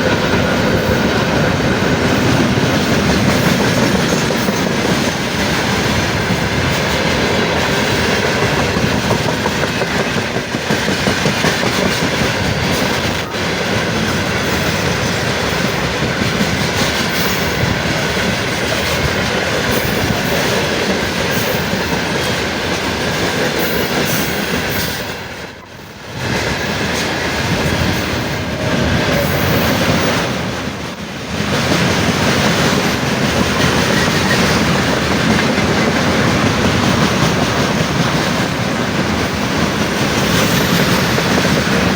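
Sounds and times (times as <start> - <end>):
train wheels clattering over rails: 0.0 - 41.9.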